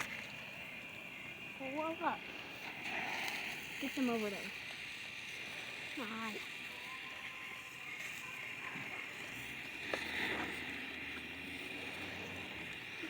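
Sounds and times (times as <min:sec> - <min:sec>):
fireworks hissing in campfire: 0:00.0 - 0:13.0.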